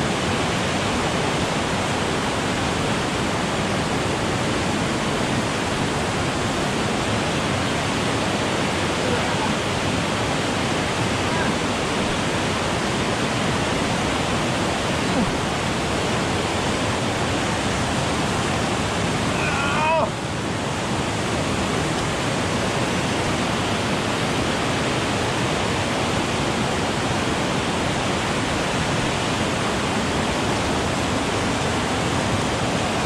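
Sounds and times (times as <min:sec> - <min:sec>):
waterfall rushing over boulders: 0:00.0 - 0:33.0.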